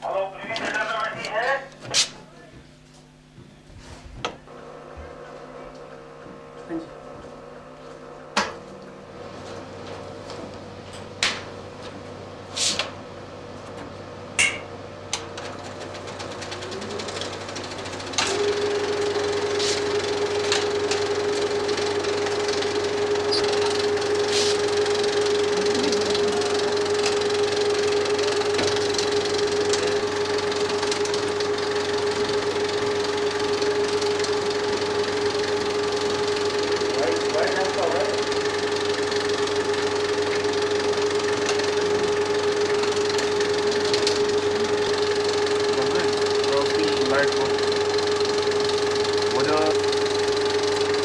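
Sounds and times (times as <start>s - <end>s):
film projector running: 0.0s - 2.2s, 4.2s - 51.0s.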